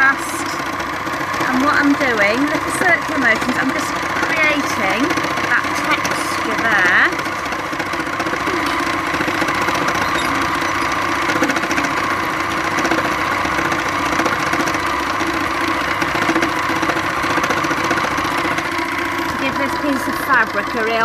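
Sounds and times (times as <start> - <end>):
needle-felting machine running: 0.0 - 21.0.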